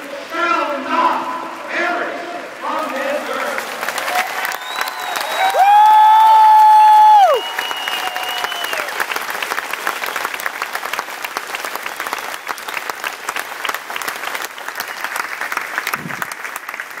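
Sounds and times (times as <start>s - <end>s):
crowd applauding: 2.4s - 17.0s.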